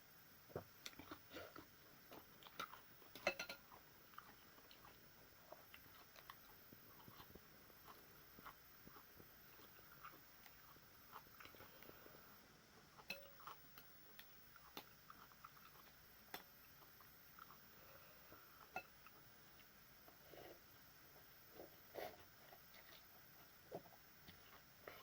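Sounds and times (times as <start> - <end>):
soft chewing: 0.4 - 25.0
small eating clicks: 0.5 - 12.2, 12.8 - 25.0.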